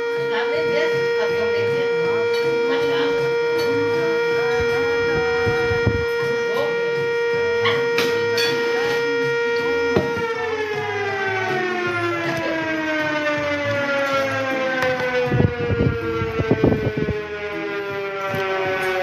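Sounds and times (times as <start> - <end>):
warning siren steady tone: 0.0 - 19.0.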